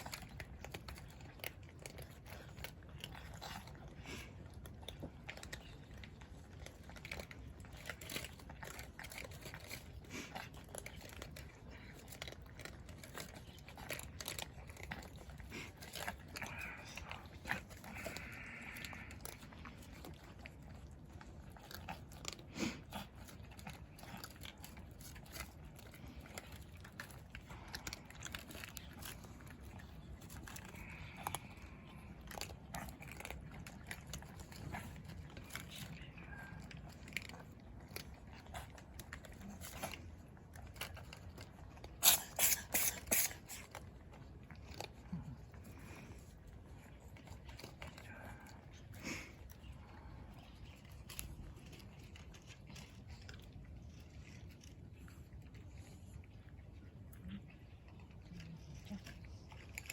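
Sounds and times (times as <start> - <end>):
cats crunching food: 0.0 - 59.9.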